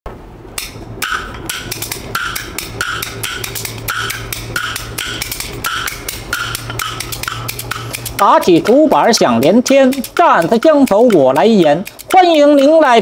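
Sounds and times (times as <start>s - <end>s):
bamboo clappers clacking: 0.6s - 13.0s.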